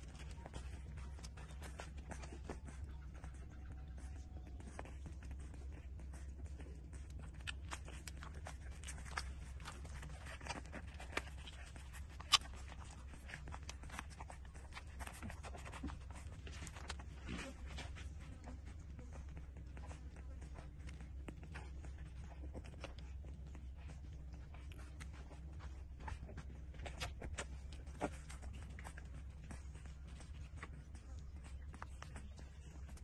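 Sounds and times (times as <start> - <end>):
puppies sucking and smacking: 0.0 - 33.0
steady low hum: 0.0 - 33.0.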